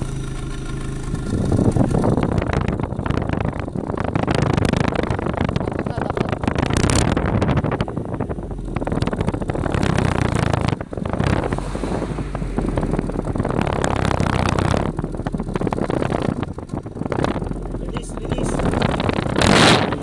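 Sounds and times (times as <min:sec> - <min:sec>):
wind noise on microphone: 0:00.8 - 0:20.0.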